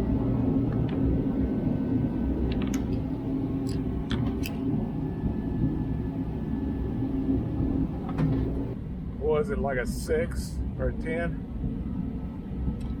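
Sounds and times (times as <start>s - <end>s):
constant hum: 0.0s - 13.0s
low mechanical rumble: 0.0s - 13.0s.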